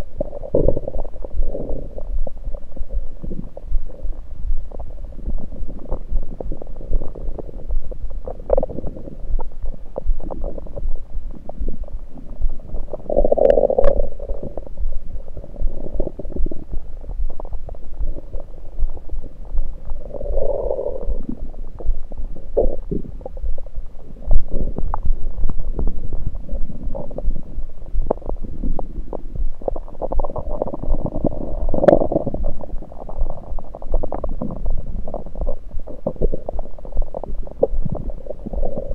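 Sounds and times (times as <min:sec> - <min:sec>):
small crackles: 0:00.0 - 0:38.9
stomach gurgling: 0:00.0 - 0:38.9.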